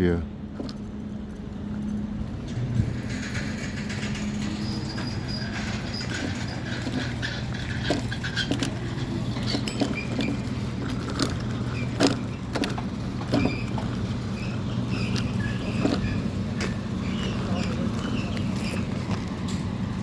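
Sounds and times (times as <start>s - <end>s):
engine humming: 0.0s - 20.0s
sharp knocks and clanks: 2.5s - 19.7s.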